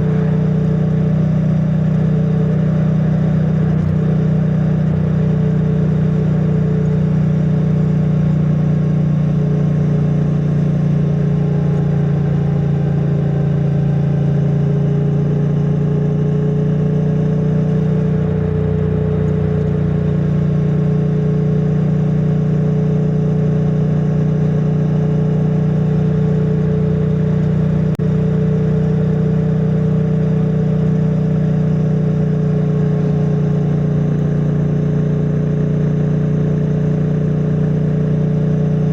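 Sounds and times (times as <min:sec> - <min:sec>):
muffled motorcycle engine cruising: 0:00.0 - 0:38.9.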